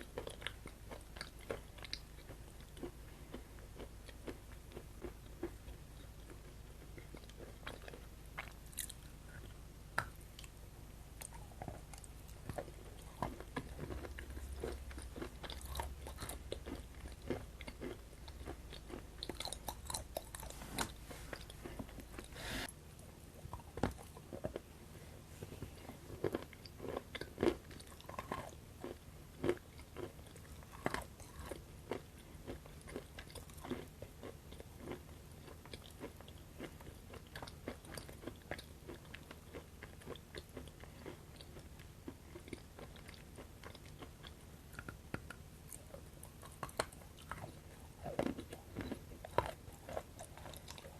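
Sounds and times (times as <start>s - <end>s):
faint low hum: 0.0s - 50.9s
person chewing chocolate: 0.0s - 50.9s.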